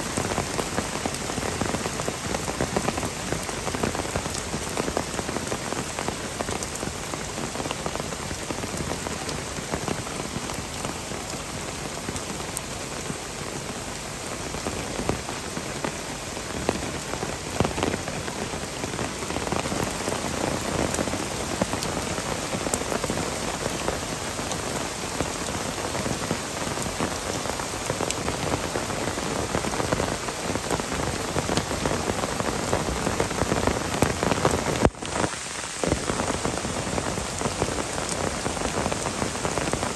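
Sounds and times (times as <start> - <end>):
heavy rain falling: 0.0 - 39.9
raindrops hitting close: 0.0 - 39.9.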